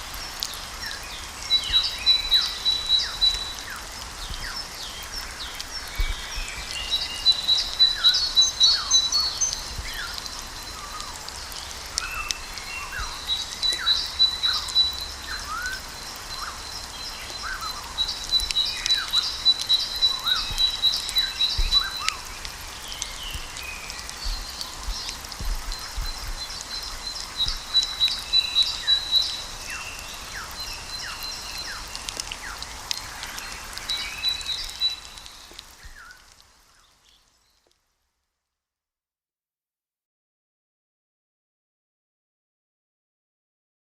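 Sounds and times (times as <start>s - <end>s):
small birds chirping: 0.2s - 37.8s.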